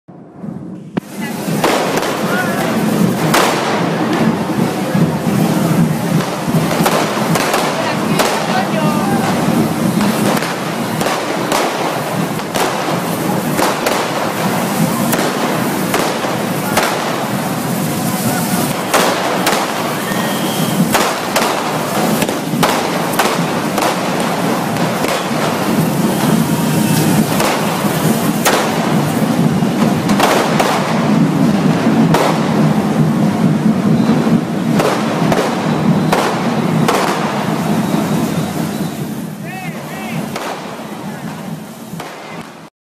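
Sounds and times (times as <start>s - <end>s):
sparklers hissing and crackling: 0.3s - 42.7s.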